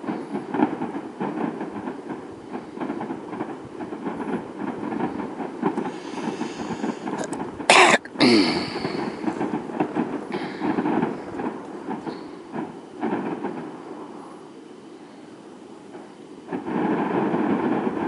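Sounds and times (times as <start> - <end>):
distant fireworks rumble: 0.0 - 18.0
loud firework crack: 0.0 - 18.0
loud sharp firework burst: 0.0 - 18.0.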